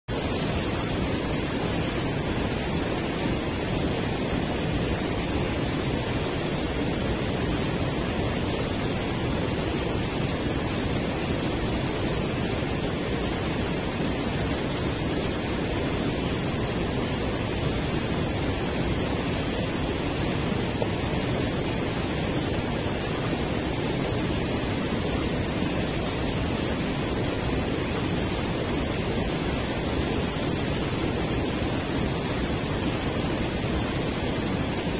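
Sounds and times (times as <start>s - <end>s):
water rushing over weir: 0.1s - 34.9s.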